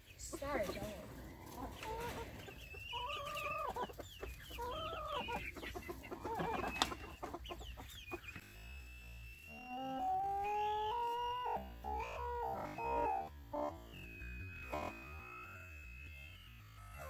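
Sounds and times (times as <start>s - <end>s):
chickens clucking: 0.0s - 8.7s, 9.4s - 15.5s
steady high tone: 0.4s - 17.0s.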